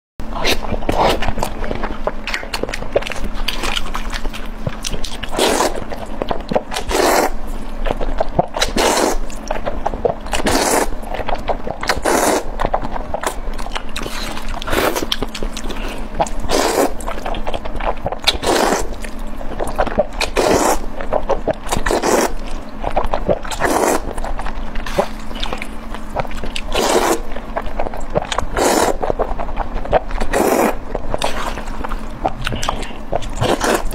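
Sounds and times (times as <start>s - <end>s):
wet chewing and mouth smacking: 0.3s - 33.9s.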